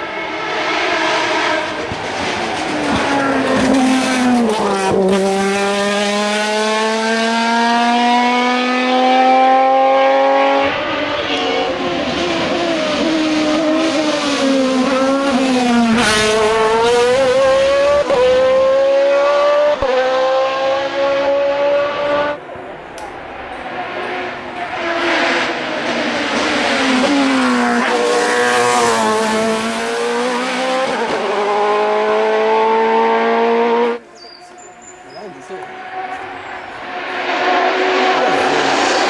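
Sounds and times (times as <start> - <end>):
race car engine at full throttle: 0.0 - 39.0.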